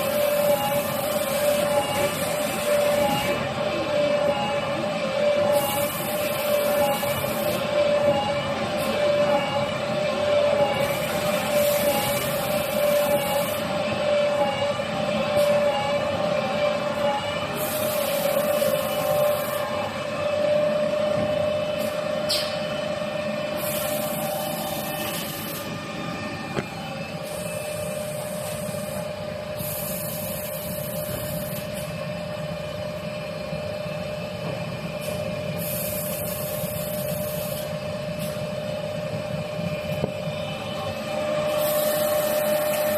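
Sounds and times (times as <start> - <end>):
machine hum: 0.0 - 42.9.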